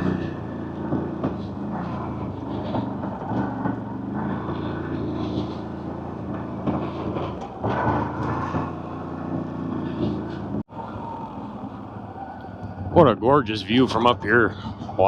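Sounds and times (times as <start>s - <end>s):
atv engine running at low speed: 0.0s - 15.0s.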